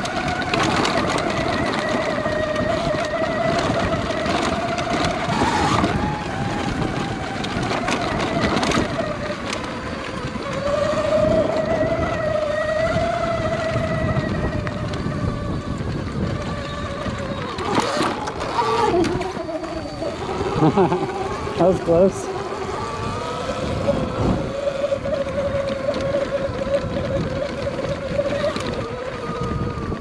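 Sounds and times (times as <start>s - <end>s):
electric dirt bike motor whining: 0.0s - 30.0s.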